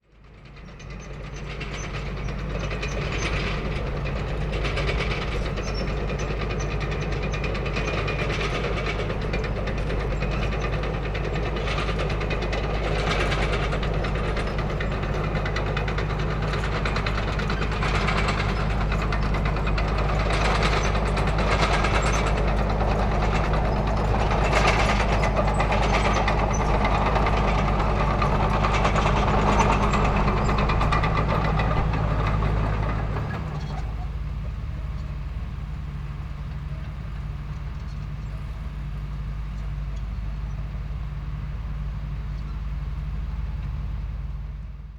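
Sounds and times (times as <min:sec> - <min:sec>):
engine drone: 0:00.2 - 0:44.9
metal tracks clattering: 0:00.4 - 0:40.6.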